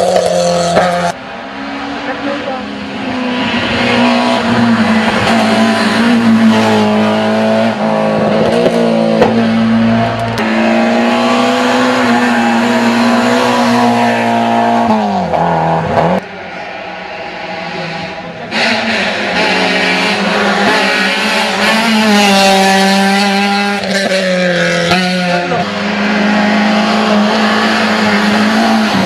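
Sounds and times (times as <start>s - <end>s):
rally car engine at high revs: 0.0s - 29.0s.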